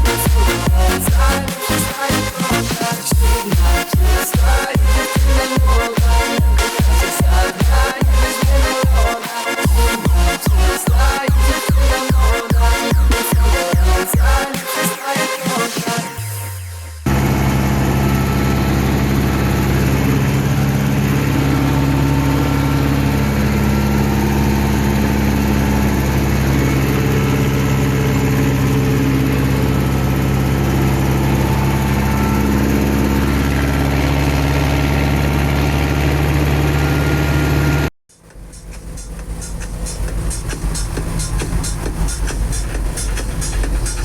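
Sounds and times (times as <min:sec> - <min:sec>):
diesel engine running steadily: 0:00.0 - 0:14.4, 0:17.0 - 0:44.0.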